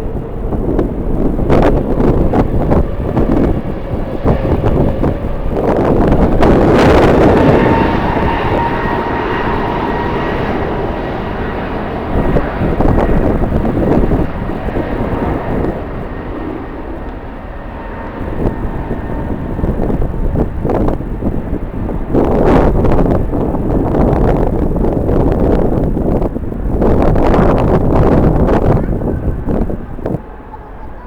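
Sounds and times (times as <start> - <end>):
jet engines whining: 0.0 - 31.0
wind buffeting microphone: 0.0 - 31.0.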